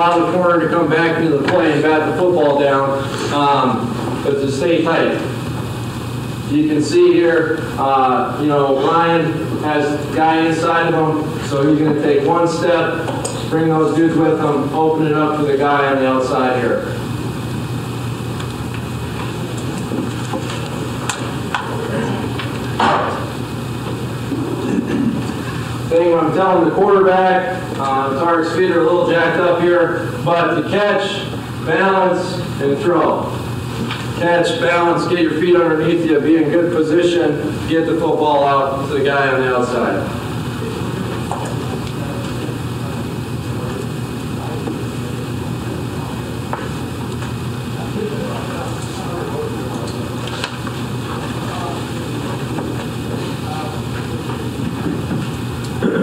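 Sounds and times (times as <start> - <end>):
low room hum: 0.0 - 56.0.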